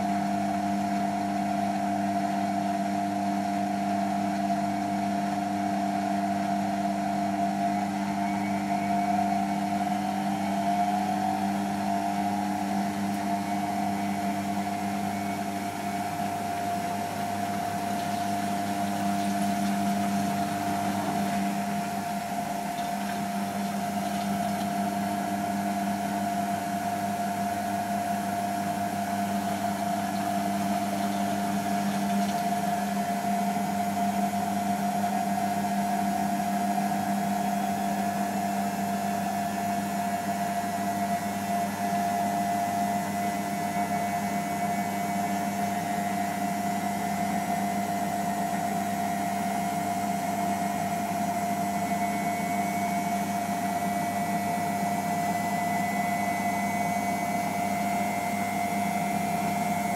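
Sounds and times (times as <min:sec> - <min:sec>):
washing machine drum spinning: 0:00.0 - 0:59.9.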